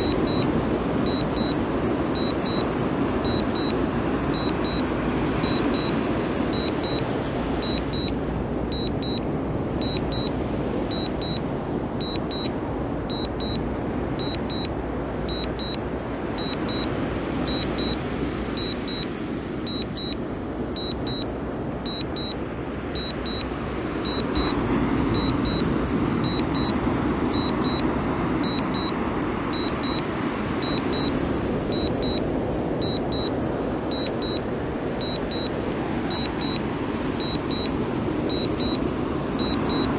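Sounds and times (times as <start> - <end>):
remote controller double beeps: 0.0 - 9.2, 9.8 - 11.4, 12.0 - 12.5, 13.1 - 13.6, 14.2 - 14.7, 15.3 - 15.8, 16.4 - 16.9, 17.5 - 18.0, 18.6 - 20.2, 20.8 - 22.4, 23.0 - 38.8, 39.4 - 39.9
steady rushing noise: 0.0 - 39.9.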